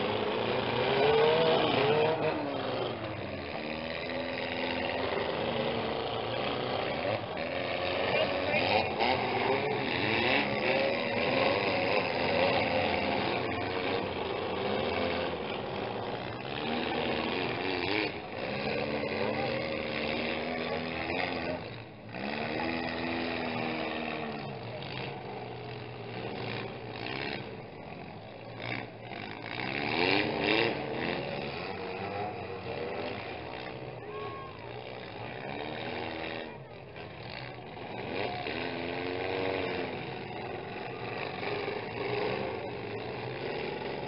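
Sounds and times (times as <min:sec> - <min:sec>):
car engines revving: 0:00.0 - 0:44.0.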